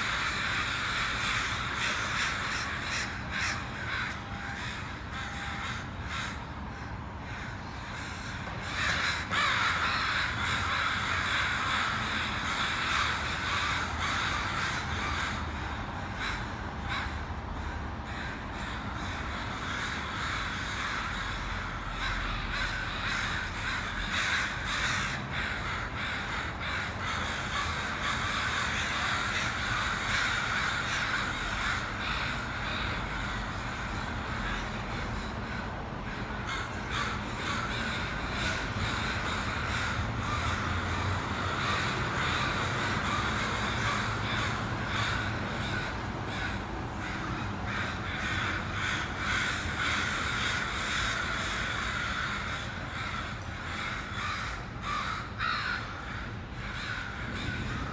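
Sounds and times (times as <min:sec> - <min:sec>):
flock of crows cawing: 0:00.0 - 0:57.9.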